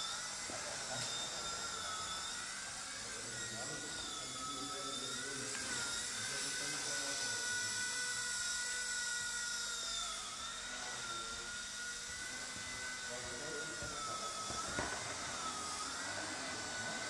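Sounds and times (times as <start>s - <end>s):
small propeller motor whining: 0.0s - 17.0s.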